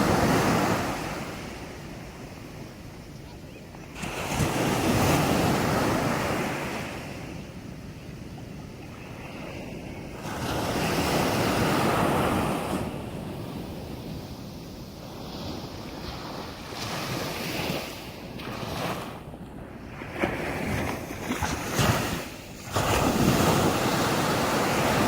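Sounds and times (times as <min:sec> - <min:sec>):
background wash of surf: 0:00.0 - 0:25.0
sea waves breaking on beach: 0:00.0 - 0:25.0.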